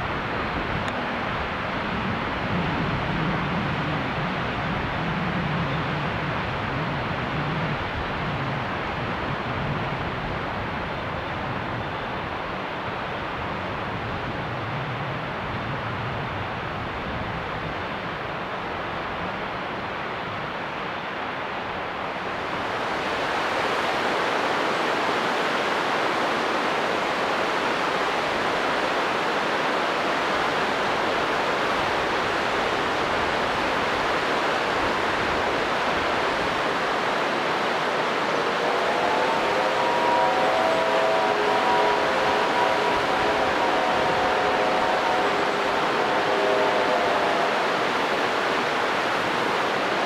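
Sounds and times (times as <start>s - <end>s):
steady rushing noise: 0.0s - 50.0s.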